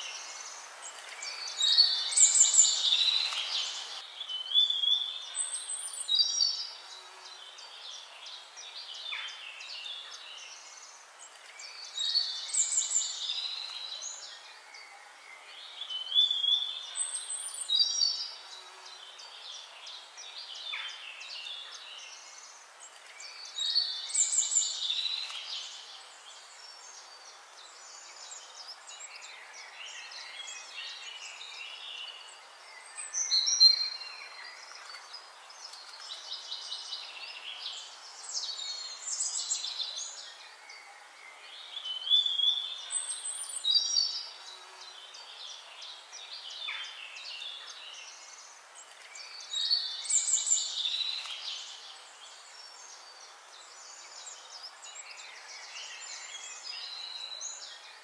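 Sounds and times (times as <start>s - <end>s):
birds chirping: 0.0s - 58.0s
steady background hiss: 0.0s - 58.0s.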